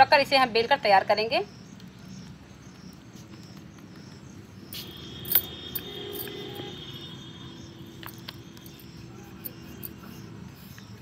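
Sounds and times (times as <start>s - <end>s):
insect chirping: 1.5s - 11.0s.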